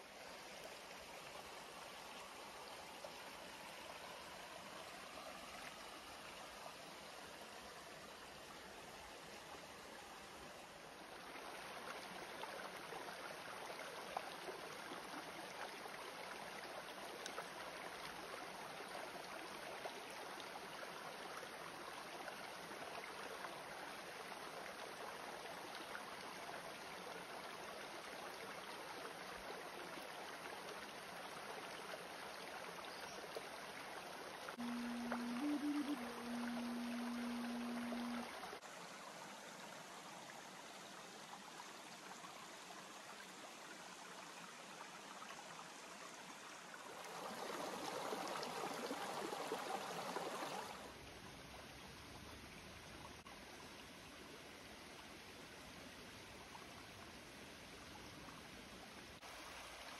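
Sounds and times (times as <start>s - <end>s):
running water rushing: 0.0s - 51.1s.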